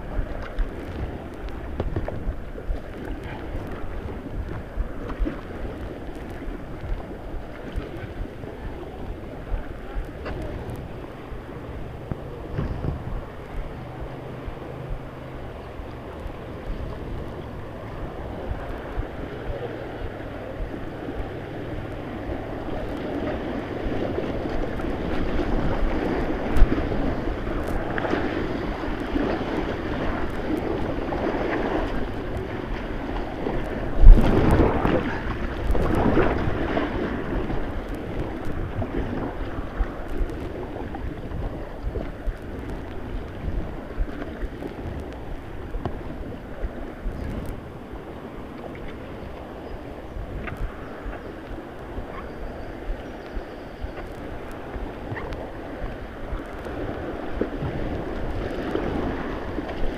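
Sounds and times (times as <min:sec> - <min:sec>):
rushing river water: 0:00.0 - 0:59.9
wind buffeting microphone: 0:00.0 - 0:59.9.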